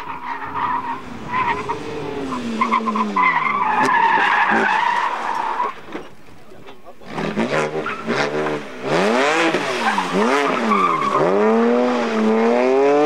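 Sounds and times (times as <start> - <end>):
car engine slowing: 0.0 - 13.0
tyres skidding and squealing: 0.0 - 13.0.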